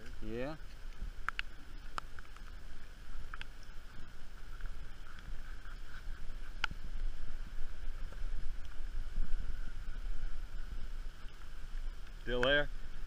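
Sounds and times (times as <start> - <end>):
wind rumble: 0.0 - 13.0.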